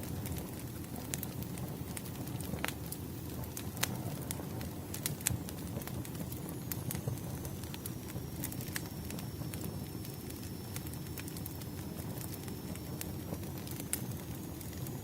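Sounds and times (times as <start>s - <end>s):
logs crackling and popping: 0.0s - 15.0s
wood fire burning: 0.0s - 15.0s.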